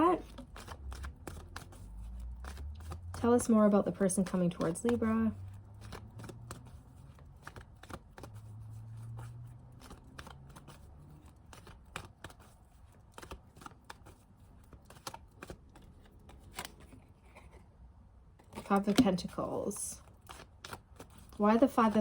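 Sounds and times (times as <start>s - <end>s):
cards being shuffled: 0.0s - 17.6s, 18.4s - 22.0s.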